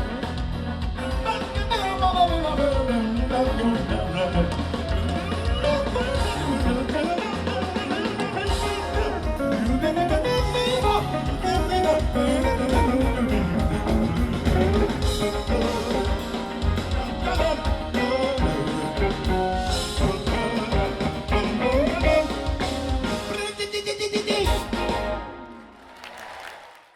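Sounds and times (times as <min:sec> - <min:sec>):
latin jazz band playing: 0:00.0 - 0:25.7
electric guitar: 0:00.0 - 0:25.8.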